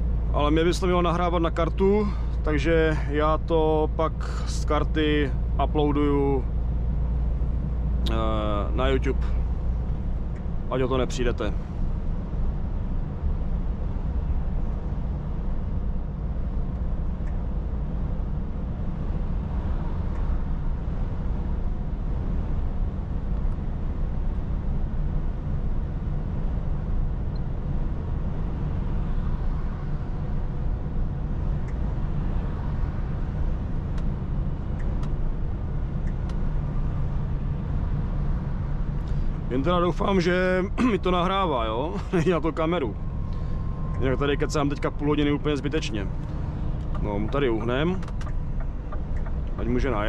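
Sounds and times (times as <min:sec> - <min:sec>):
diesel lorry engine drone: 0:00.0 - 0:50.0
tyre and road noise: 0:04.0 - 0:50.0.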